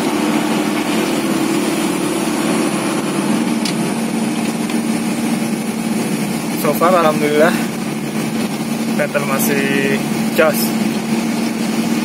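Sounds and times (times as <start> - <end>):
diesel engine under load: 0.0 - 12.0.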